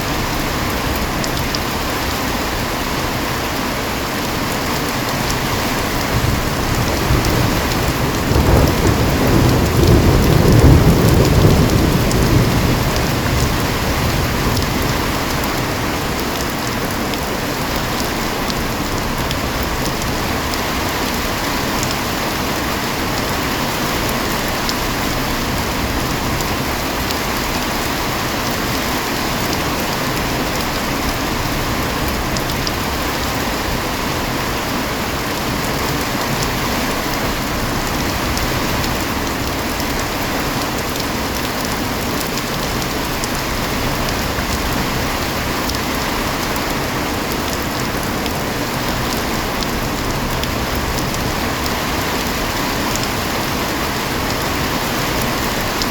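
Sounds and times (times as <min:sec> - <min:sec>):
heavy rain drumming: 0:00.0 - 0:55.9
raindrops ticking: 0:04.2 - 0:22.4, 0:23.1 - 0:33.8, 0:35.6 - 0:55.9.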